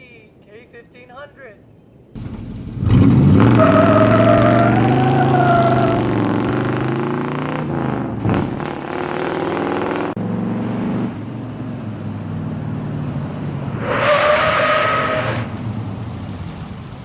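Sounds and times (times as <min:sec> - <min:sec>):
truck engine running and revving: 0:02.2 - 0:17.0.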